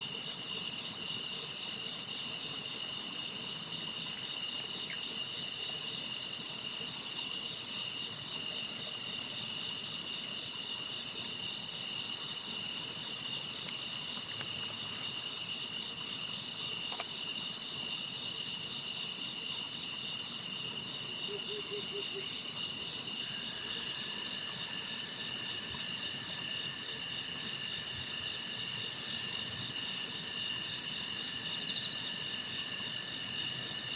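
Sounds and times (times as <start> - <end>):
insects trilling: 0.0 - 33.9
low pulsed insect call: 0.0 - 33.9
pulsing insect song: 0.0 - 33.9.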